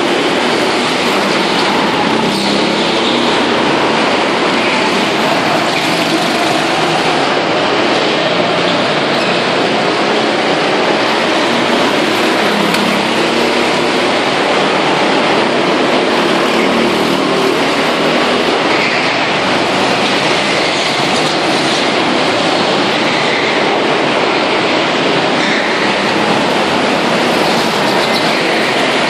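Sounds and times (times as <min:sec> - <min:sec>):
go-kart engines echoing indoors: 0:00.0 - 0:29.0.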